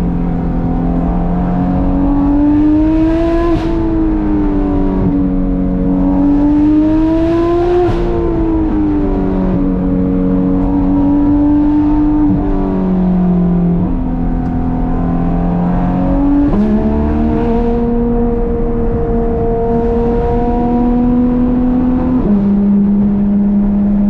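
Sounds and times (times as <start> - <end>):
sports car engine revving through gears: 0.0 - 24.0.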